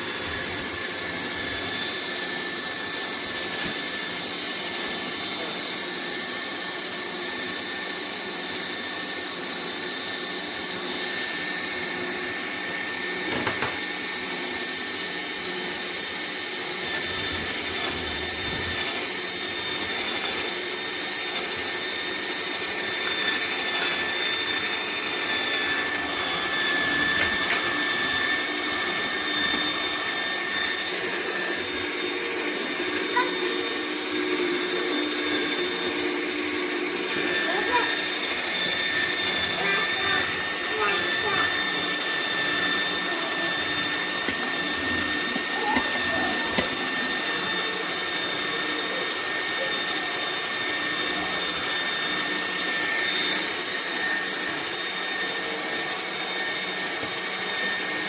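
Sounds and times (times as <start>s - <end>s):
juicer motor whirring: 0.0s - 58.0s.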